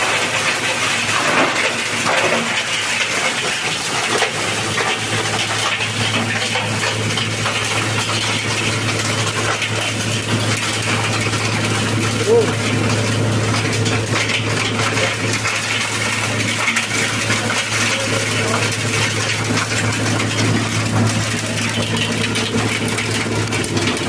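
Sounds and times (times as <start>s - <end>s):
metallic rattling clatter: 0.0s - 24.0s.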